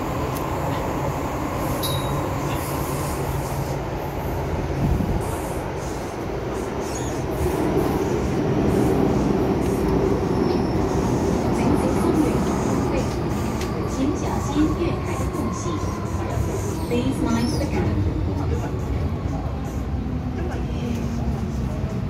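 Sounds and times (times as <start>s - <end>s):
subway train wheels rumbling on rails: 0.0s - 22.0s.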